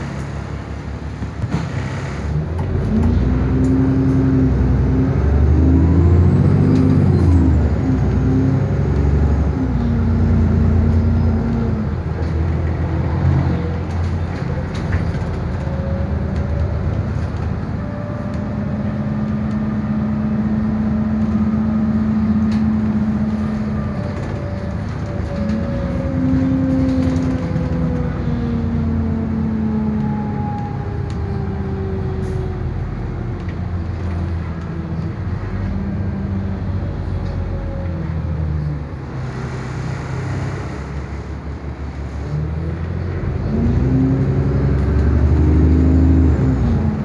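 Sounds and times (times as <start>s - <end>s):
bus engine: 0.0s - 47.0s.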